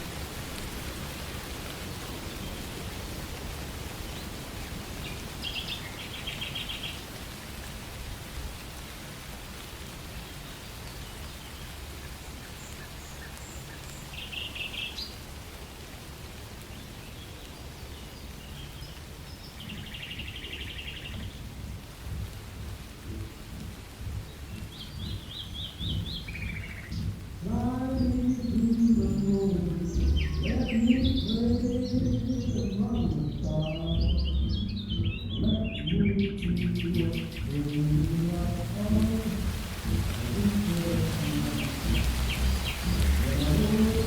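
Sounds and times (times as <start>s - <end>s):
steady rain: 0.0s - 44.0s
songbirds calling: 0.7s - 44.0s.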